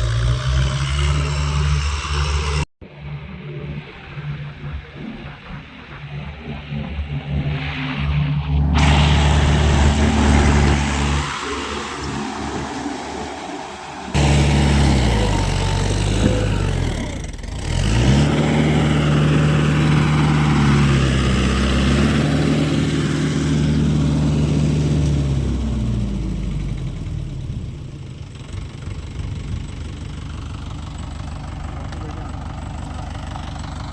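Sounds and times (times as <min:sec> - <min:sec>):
tractor engine revving: 0:00.0 - 0:33.9.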